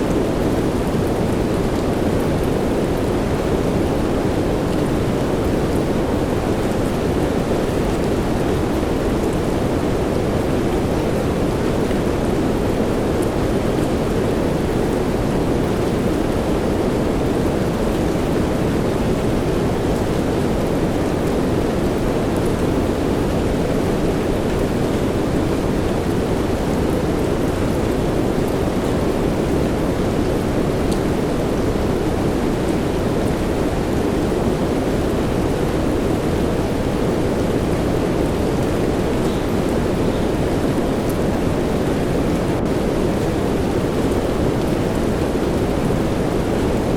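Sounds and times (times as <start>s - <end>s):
soft rain falling: 0.0s - 46.9s.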